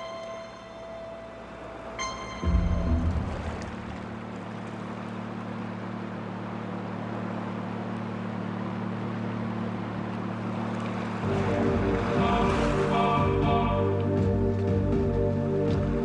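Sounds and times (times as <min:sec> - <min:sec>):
motor boat engine humming: 0:00.0 - 0:16.0
water wash: 0:01.1 - 0:16.0.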